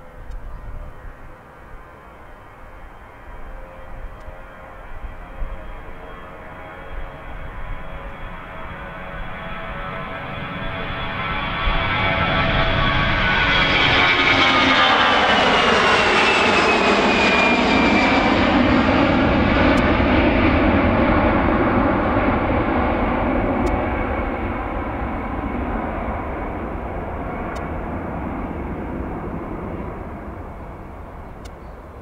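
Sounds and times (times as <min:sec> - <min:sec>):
jet engines at takeoff: 0:00.0 - 0:32.0.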